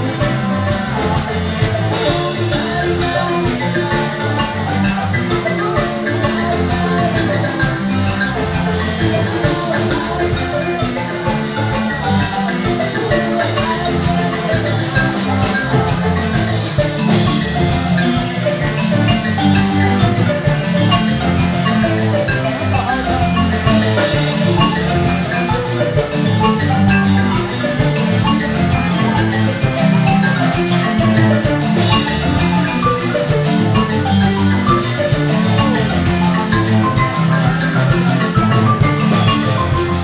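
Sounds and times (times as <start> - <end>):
drums: 0.0 - 40.0
mallet percussion melody: 0.0 - 40.0.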